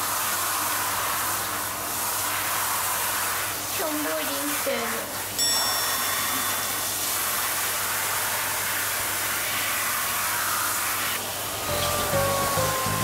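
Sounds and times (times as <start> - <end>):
shower spraying water: 0.0 - 13.0.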